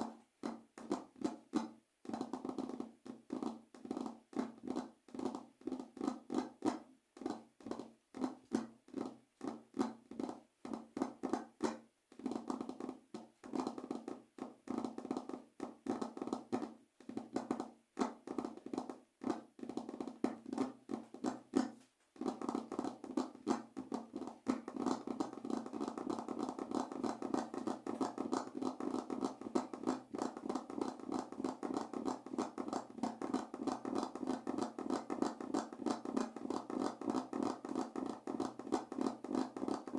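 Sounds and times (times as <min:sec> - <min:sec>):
fingers tapping on a surface: 0:00.0 - 0:39.9.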